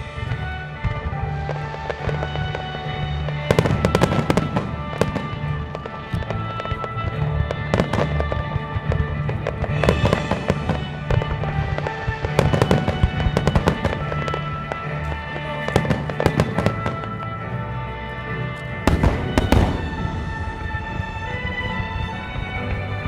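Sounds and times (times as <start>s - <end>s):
fireworks bursting: 0.0s - 23.0s
music: 0.0s - 23.0s.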